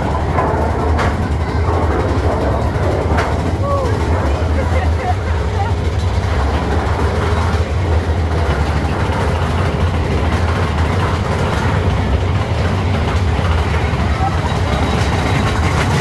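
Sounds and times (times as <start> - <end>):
moving vehicle rumble: 0.0 - 16.0.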